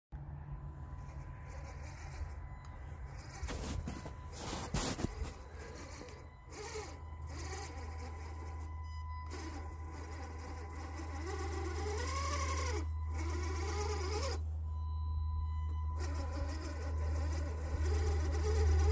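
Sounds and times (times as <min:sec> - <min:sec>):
electric motor whine: 0:00.3 - 0:14.5, 0:15.9 - 0:18.9.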